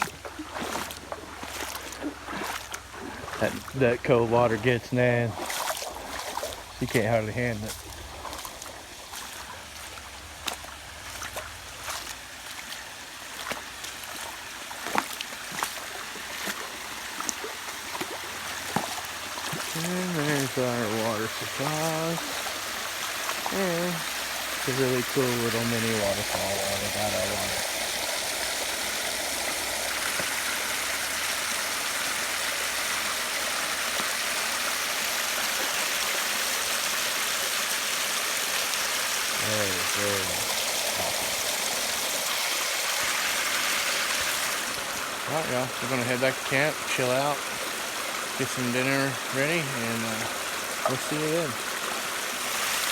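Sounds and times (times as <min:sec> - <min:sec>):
creek water running over rock: 0:00.0 - 0:52.9
small water splashes and plinks: 0:00.0 - 0:52.9.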